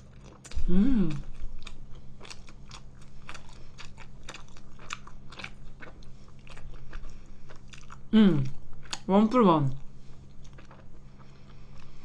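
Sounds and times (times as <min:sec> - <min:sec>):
chewing noodles: 0:00.0 - 0:09.1, 0:09.8 - 0:12.0.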